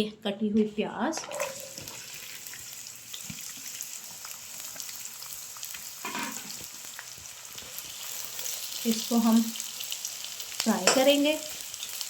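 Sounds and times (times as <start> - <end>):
onions sizzling in hot oil: 1.2 - 12.0.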